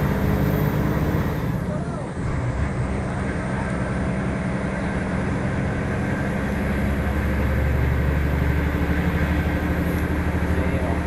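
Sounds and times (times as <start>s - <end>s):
diesel engine droning: 0.0s - 11.0s
road and tyre noise: 0.0s - 11.0s.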